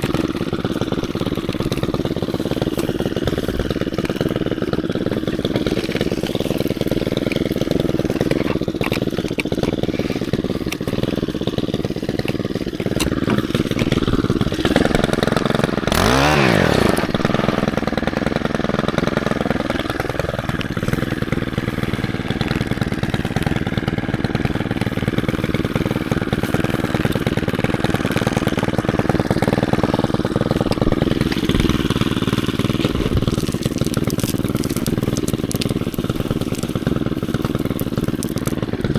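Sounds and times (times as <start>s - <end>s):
cultivator engine running: 0.0s - 38.9s
tines churning rocky soil: 0.0s - 38.9s.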